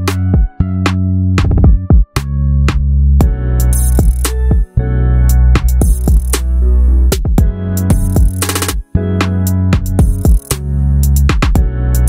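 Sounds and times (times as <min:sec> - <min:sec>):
music with heavy bass and drums: 0:00.0 - 0:12.0.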